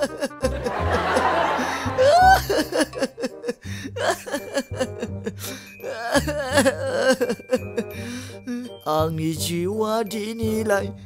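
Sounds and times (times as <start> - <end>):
man crying and wailing: 0.0 - 9.1.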